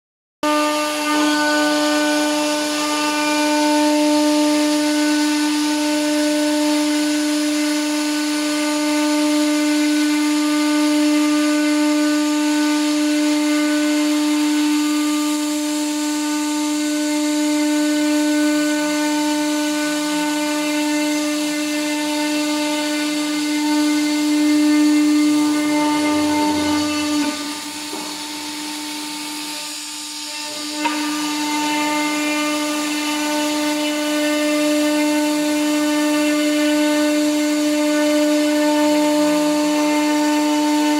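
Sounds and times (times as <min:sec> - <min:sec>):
router bit cutting wood: 0:00.4 - 0:40.9
router spindle whining: 0:00.4 - 0:40.9.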